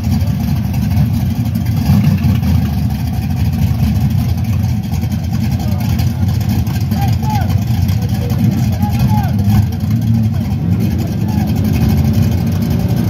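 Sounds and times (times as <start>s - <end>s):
car engine idling loudly: 0.0s - 13.0s.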